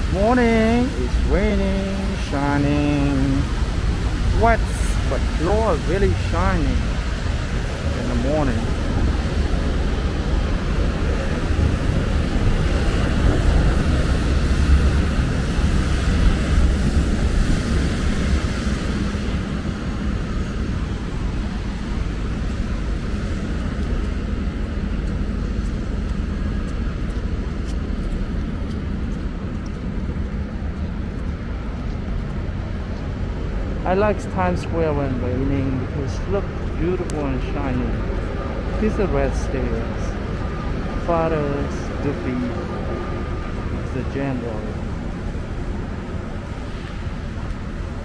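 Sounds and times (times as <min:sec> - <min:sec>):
traffic on wet streets: 0:00.0 - 0:48.0.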